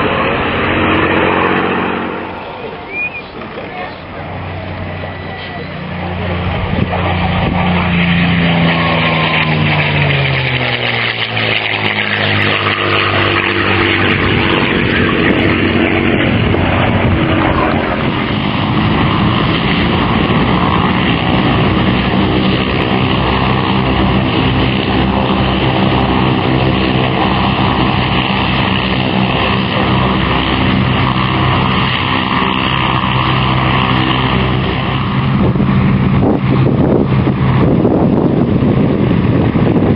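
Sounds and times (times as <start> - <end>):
propeller plane engine fly-by: 0.0 - 39.9.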